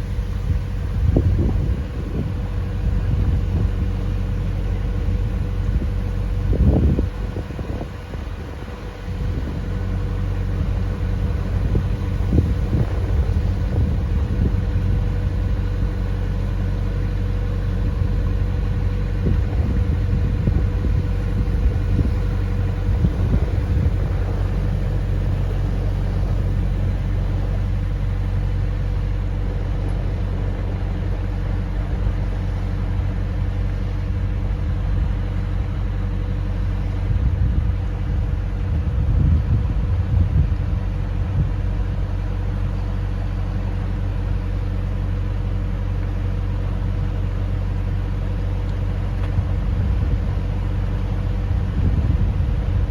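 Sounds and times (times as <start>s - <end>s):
diesel engine droning: 0.0s - 52.9s.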